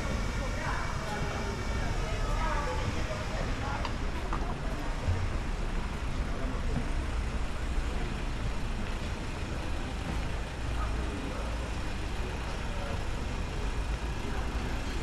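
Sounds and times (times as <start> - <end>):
city traffic rumble: 0.0 - 15.0
faint voices: 0.0 - 15.0.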